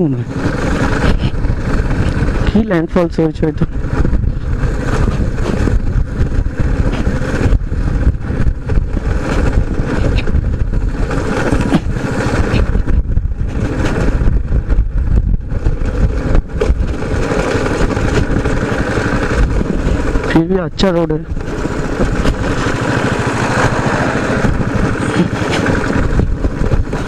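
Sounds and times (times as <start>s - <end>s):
motorcycle running: 0.0s - 27.0s
wind rumble on microphone: 0.0s - 27.0s.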